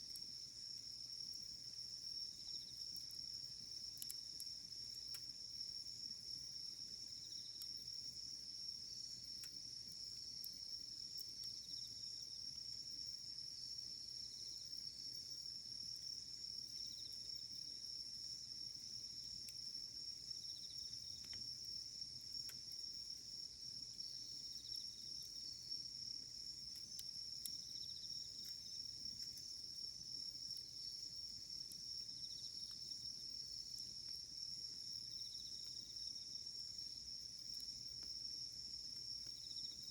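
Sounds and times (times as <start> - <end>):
campfire crackling: 0.0 - 39.9
insects chorus: 0.1 - 39.9.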